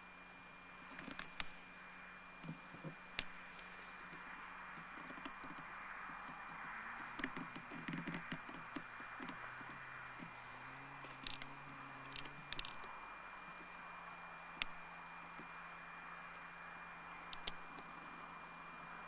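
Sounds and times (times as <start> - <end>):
distant microlight engine drone: 0.0 - 19.0.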